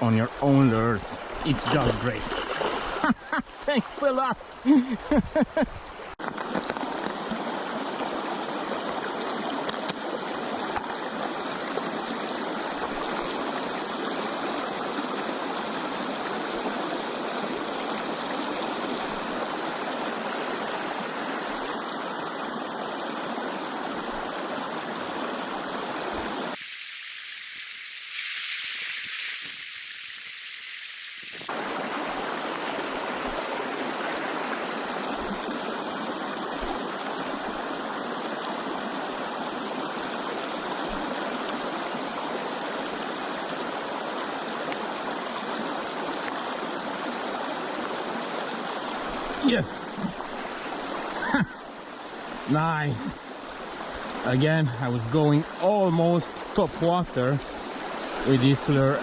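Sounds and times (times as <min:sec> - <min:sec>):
river water rushing: 0:00.0 - 0:04.8, 0:05.8 - 0:27.2, 0:28.1 - 0:59.0.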